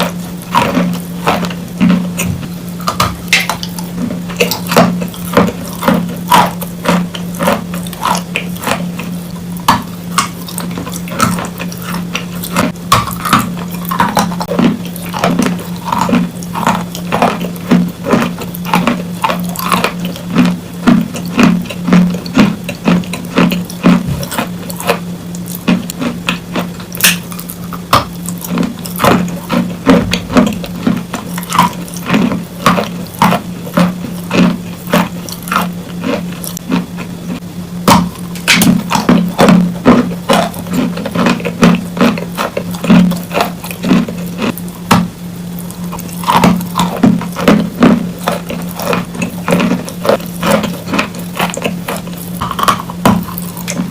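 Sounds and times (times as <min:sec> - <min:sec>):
chalk being chewed: 0:00.0 - 0:45.0, 0:45.6 - 0:53.9
steady low hum: 0:00.0 - 0:53.9.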